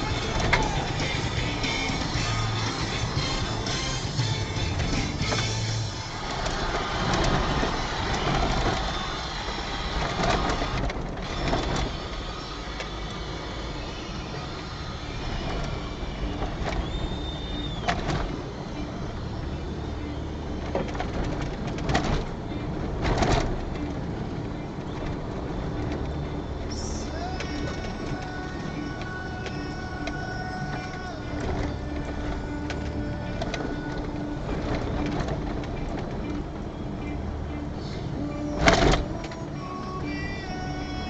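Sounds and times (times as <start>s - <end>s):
knocks and rattles over bumps: 0.0s - 13.2s, 14.4s - 18.8s, 20.6s - 26.4s, 27.2s - 36.8s, 38.6s - 39.4s
car engine hum: 0.0s - 41.0s.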